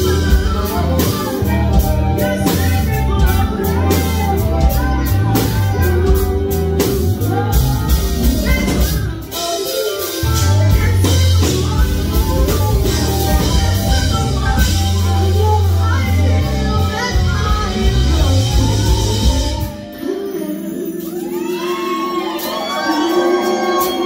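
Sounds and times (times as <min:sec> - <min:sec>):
lead vocalist singing: 0:00.0 - 0:24.0
live band playing: 0:00.0 - 0:24.0.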